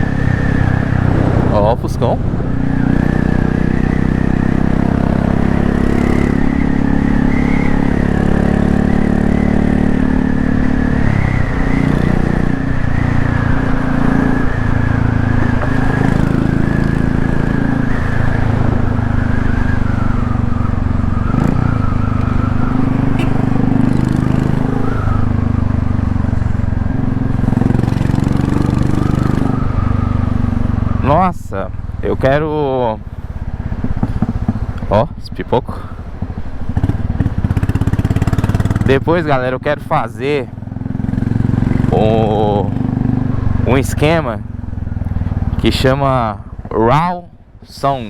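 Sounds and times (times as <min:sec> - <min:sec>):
motorcycle exhaust rumble: 0:00.0 - 0:35.2, 0:35.8 - 0:46.8.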